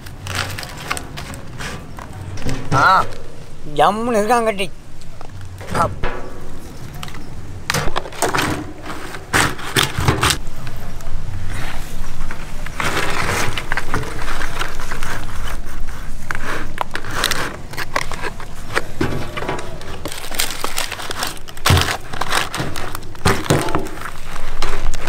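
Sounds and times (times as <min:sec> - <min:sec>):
palm leaves rustling and crackling: 0:00.0 - 0:25.0.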